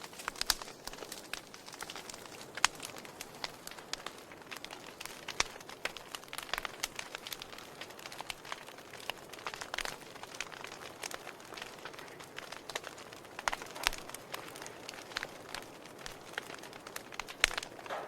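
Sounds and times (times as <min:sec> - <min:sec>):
fire low hiss: 0:00.0 - 0:18.0
wood fire crackling and popping: 0:00.0 - 0:18.0.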